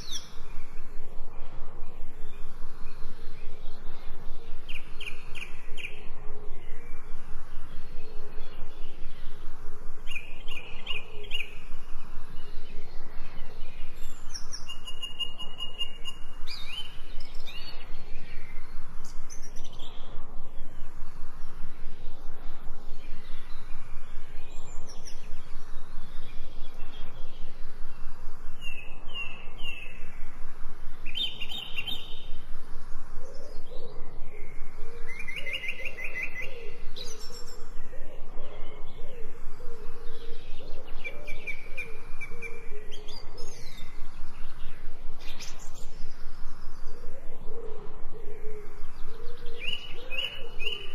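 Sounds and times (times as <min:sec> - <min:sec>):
birds chirping trills: 0:00.0 - 0:50.9.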